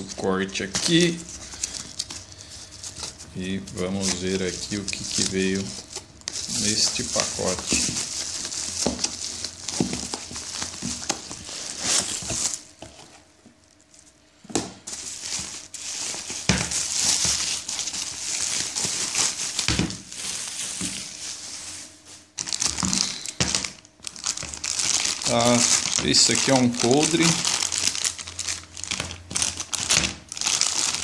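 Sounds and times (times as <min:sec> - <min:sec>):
bubble wrap and plastic crinkling: 0:00.0 - 0:31.0.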